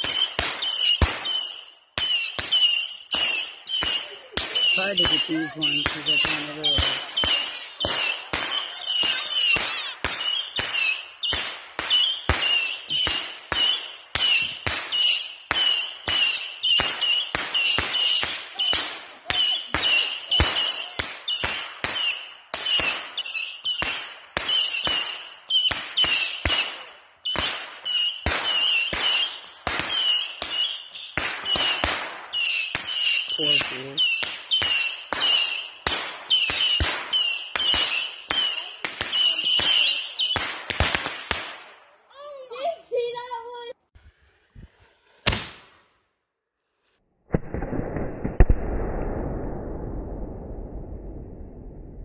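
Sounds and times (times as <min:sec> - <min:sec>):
fireworks popping and banging: 0:00.0 - 0:43.7, 0:44.6 - 0:45.9.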